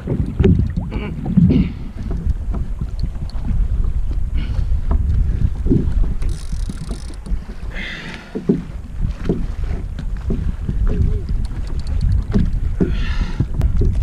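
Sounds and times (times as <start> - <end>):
sea water against kayak hull: 0.0 - 14.0
wind buffeting microphone: 0.0 - 14.0.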